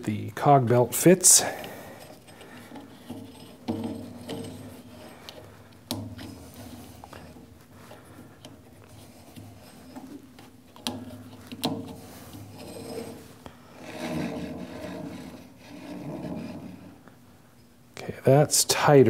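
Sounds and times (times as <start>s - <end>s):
rubber belt rubbing and scraping: 0.7s - 17.1s.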